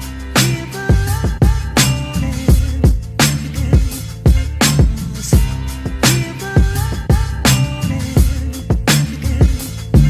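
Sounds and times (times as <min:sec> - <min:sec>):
hip hop music with heavy drums: 0:00.0 - 0:10.0.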